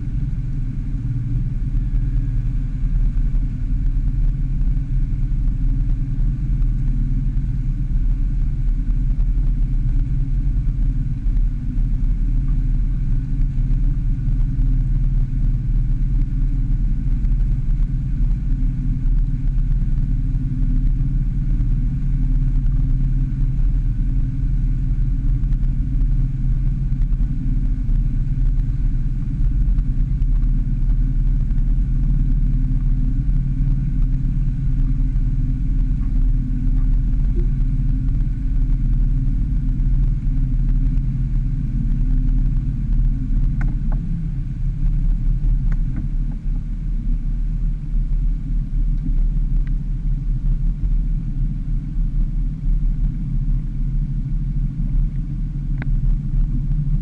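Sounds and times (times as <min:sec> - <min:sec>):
outboard motor droning: 0:00.0 - 0:57.0.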